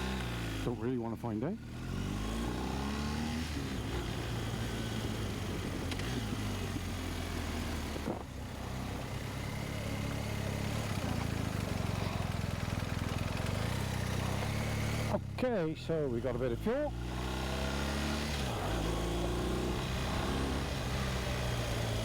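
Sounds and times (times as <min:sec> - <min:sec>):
motorcycle engine running: 0:01.6 - 0:22.0.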